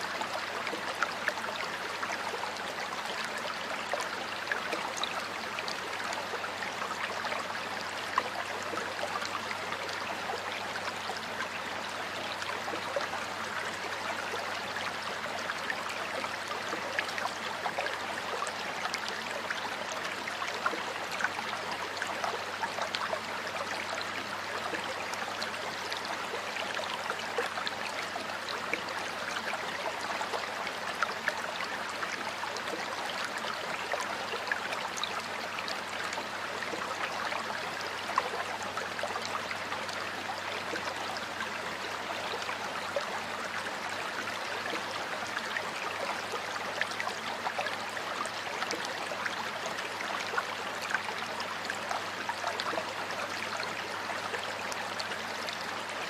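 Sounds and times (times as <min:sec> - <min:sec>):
stream water flowing over rocks: 0:00.0 - 0:56.0.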